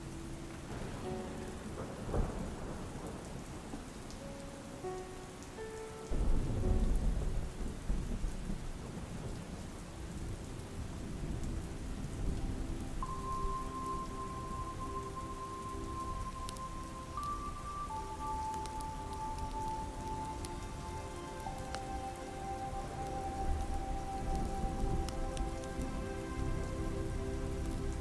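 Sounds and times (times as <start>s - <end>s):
thunder rumbling: 0.0s - 4.4s, 6.1s - 28.0s
soft ambient music tones: 0.0s - 28.0s
steady rain falling: 0.0s - 28.0s.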